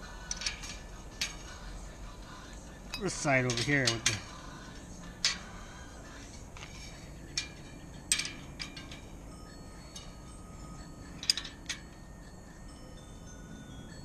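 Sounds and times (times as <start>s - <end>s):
wrenches clinking on axle nuts: 0.1s - 1.9s, 2.9s - 13.9s.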